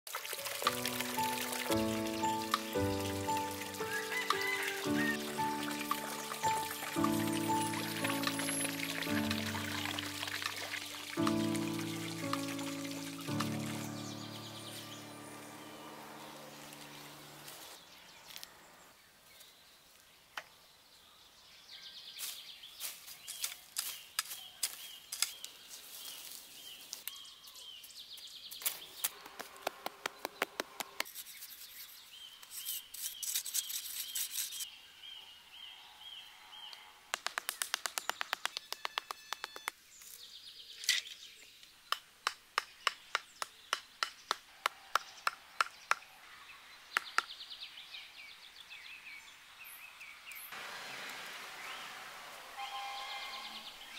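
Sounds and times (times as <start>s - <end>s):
birds chirping: 0.6s - 53.9s.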